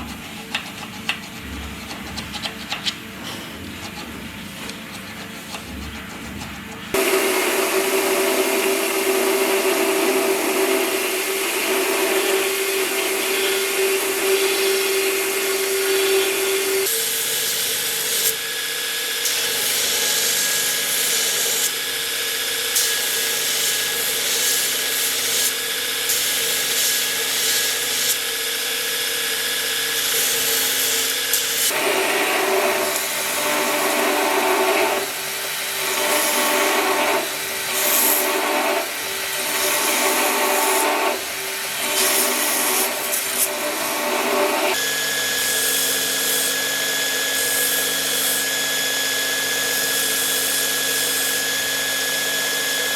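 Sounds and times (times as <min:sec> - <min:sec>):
power tool running: 0:06.9 - 0:52.9.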